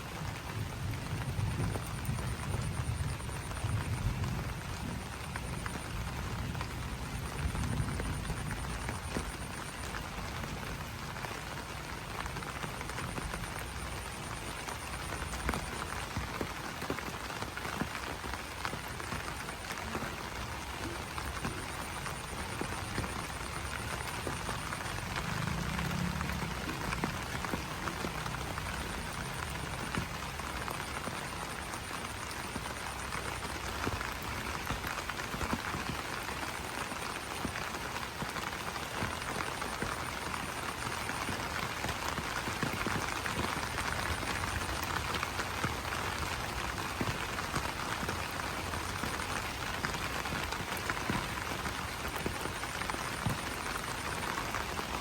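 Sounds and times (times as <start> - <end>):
rain on leaves: 0.0 - 55.0.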